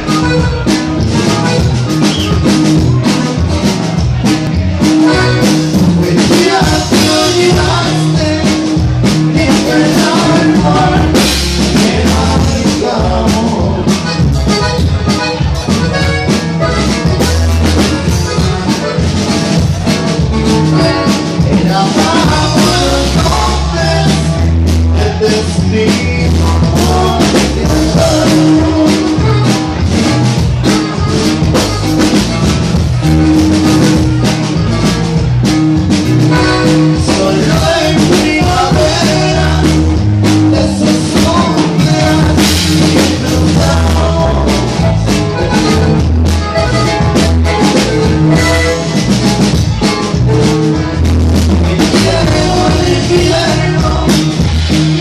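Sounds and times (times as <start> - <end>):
drum kit: 0.0 - 55.0
electric bass: 0.0 - 55.0
live band music: 0.0 - 55.0.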